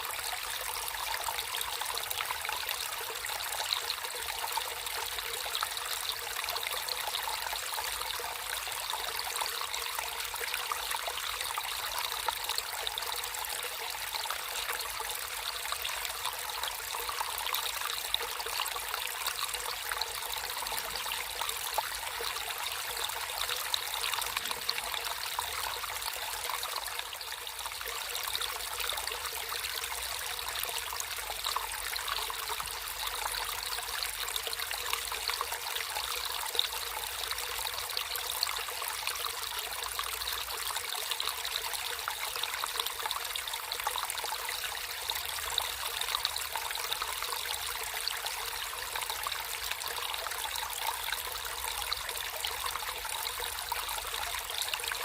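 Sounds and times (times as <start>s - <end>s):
water trickling over stones: 0.0s - 55.0s.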